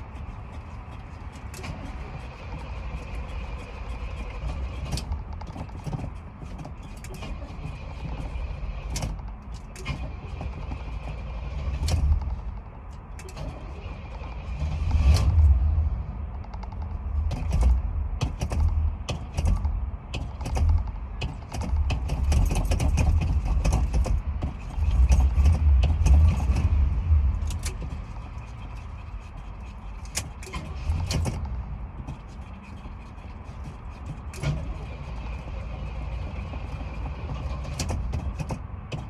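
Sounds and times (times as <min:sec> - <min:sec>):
car engine cranking: 0:00.0 - 0:39.0.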